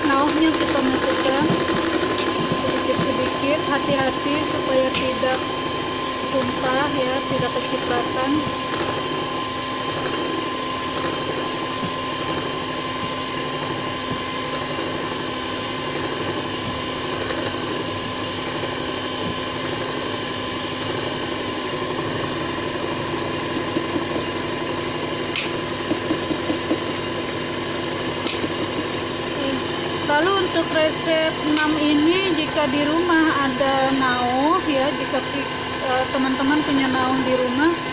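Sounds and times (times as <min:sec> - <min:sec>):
electric mixer whirring: 0:00.0 - 0:37.9.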